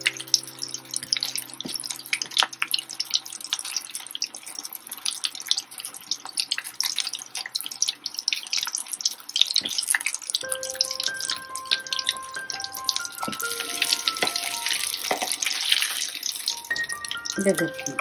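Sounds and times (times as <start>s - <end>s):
fish deep-frying in oil: 0.0s - 18.0s.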